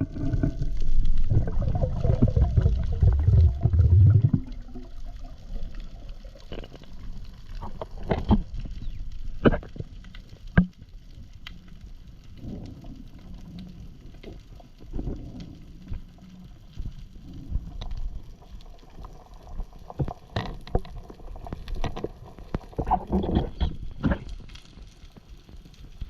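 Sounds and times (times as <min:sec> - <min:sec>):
muffled underwater rumble: 0:00.0 - 0:26.0.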